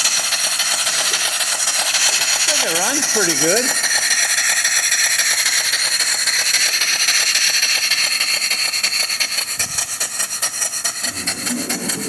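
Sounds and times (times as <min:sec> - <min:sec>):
steam engine chuffing: 0:00.0 - 0:12.0.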